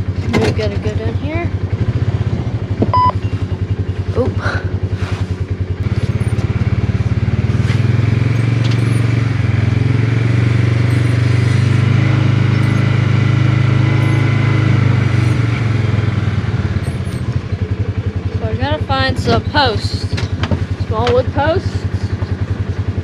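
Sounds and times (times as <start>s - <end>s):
small vehicle engine running: 0.0s - 23.0s.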